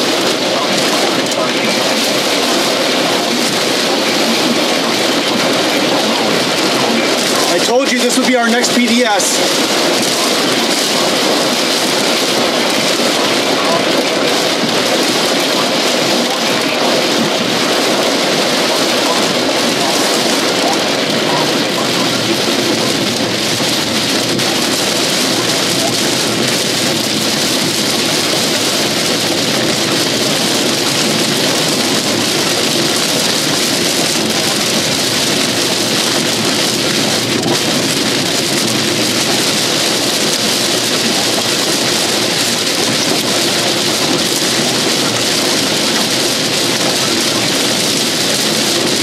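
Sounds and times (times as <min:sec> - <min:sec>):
heavy rain on vehicle roof: 0:00.0 - 0:49.0.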